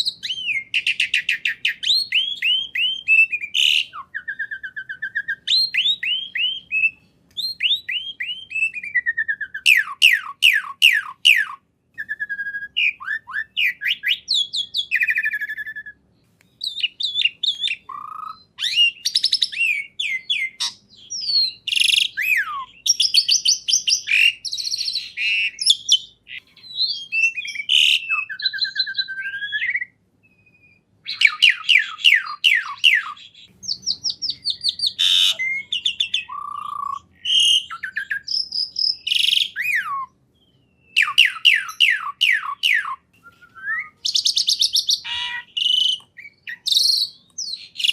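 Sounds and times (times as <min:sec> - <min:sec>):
songbird whistles and trills: 0:00.0 - 0:47.9.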